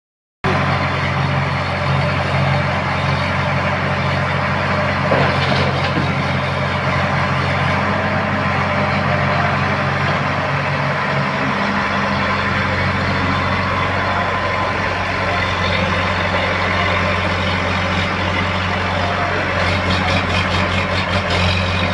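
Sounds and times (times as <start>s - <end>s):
diesel engine running: 0.4s - 21.9s.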